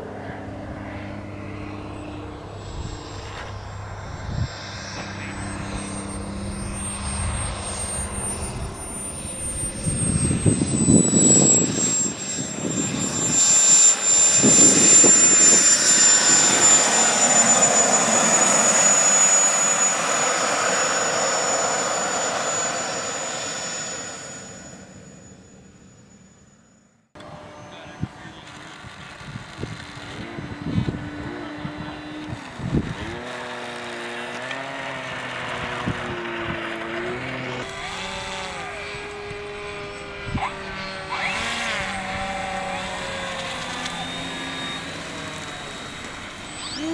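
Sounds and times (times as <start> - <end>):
model jet whine and roar: 0.0 - 26.6, 27.2 - 46.9.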